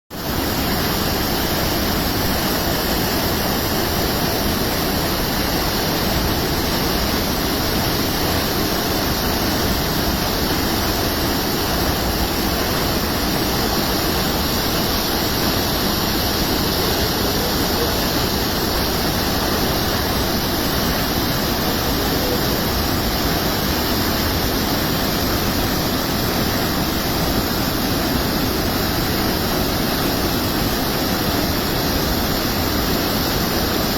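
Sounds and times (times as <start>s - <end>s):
heavy rain rushing: 0.3s - 33.9s.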